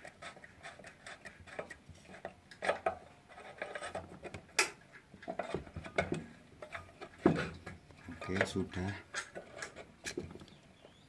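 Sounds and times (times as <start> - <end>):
small metal parts clicking and scraping: 0.0 - 10.5.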